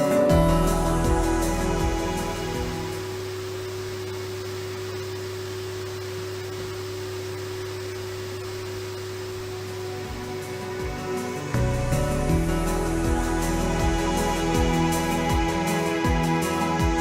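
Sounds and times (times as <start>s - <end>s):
vacuum cleaner running: 0.3s - 17.0s.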